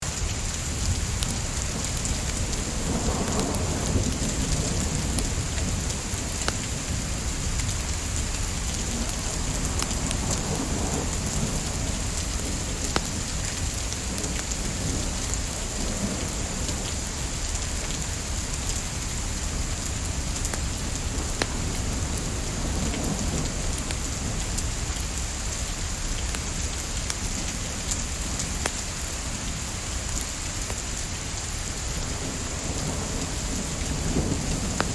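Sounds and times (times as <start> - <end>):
steady rain: 0.0 - 34.9
burning wood crackling: 0.1 - 34.9.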